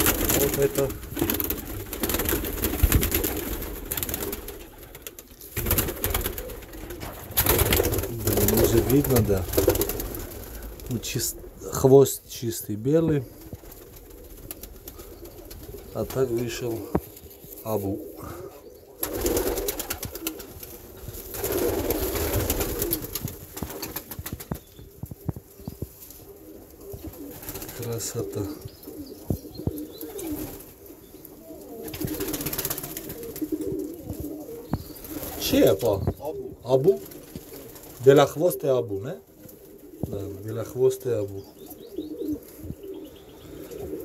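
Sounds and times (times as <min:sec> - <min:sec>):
pigeons cooing: 0:00.0 - 0:44.0.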